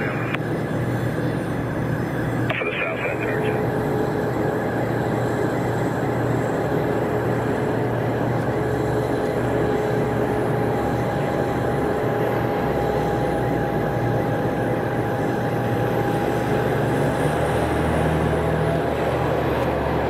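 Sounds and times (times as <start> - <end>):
constant whine: 0.0 - 20.0.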